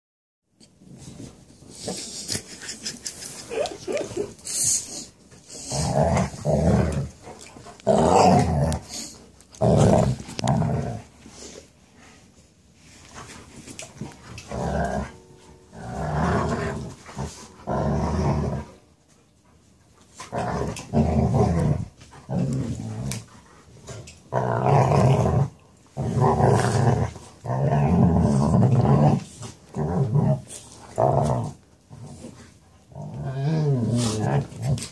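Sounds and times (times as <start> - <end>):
dogs growling in play: 1.7 - 12.3, 13.0 - 19.2, 20.0 - 34.9.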